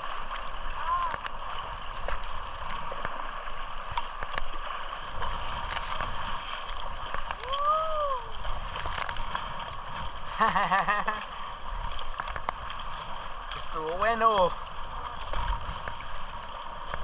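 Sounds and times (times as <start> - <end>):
water splashing around kayak: 0.0 - 17.0.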